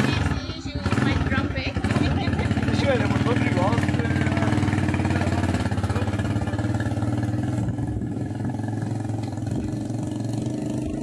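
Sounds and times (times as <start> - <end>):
small motorcycle engine: 0.0 - 11.0.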